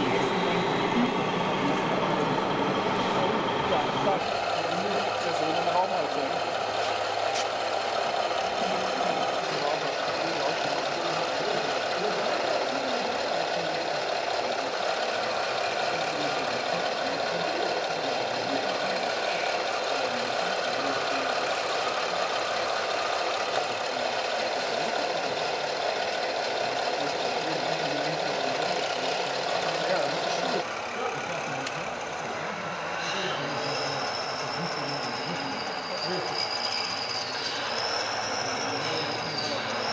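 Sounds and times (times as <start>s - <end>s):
crowd chatter: 0.0s - 39.9s
model vehicle engines running: 0.0s - 39.9s.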